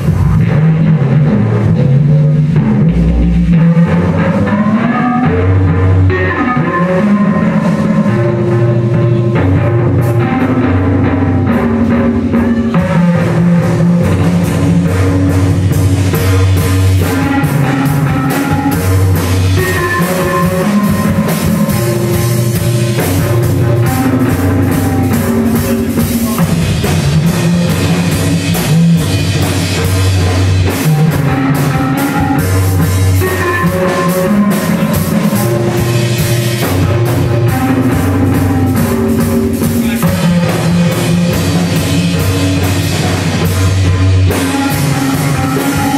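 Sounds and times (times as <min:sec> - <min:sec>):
bass line: 0:00.0 - 0:45.9
drum kit: 0:00.0 - 0:45.9
electric guitar: 0:00.0 - 0:45.9.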